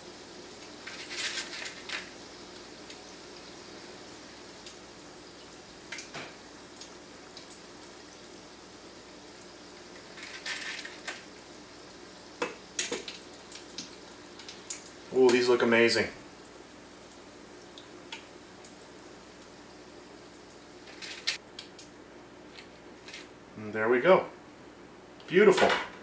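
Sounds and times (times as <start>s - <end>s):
hot oil sizzling and bubbling: 0.0s - 23.5s.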